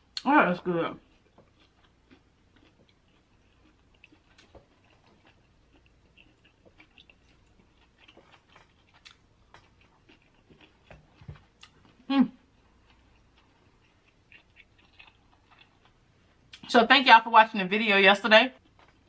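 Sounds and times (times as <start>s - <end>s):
soft chewing: 0.0s - 16.7s, 18.5s - 19.0s.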